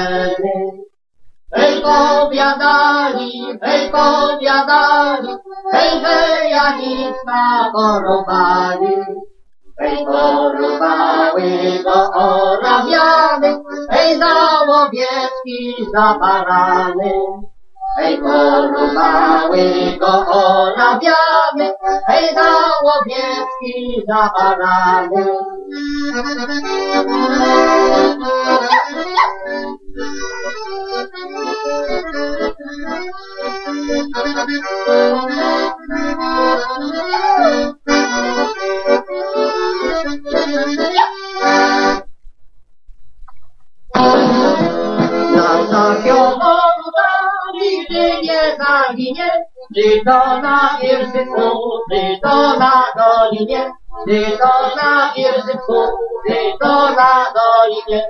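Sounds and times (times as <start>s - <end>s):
accordion: 0.0s - 42.1s, 43.8s - 58.0s.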